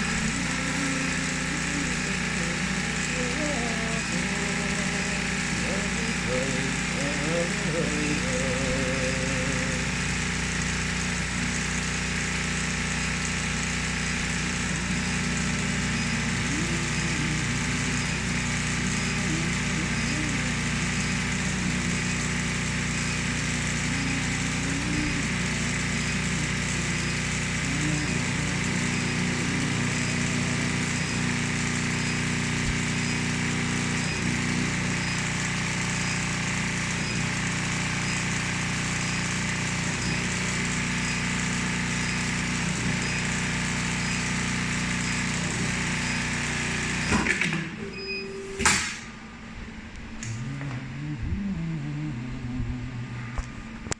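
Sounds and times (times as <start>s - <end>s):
industrial sewing machine running: 0.0s - 49.1s.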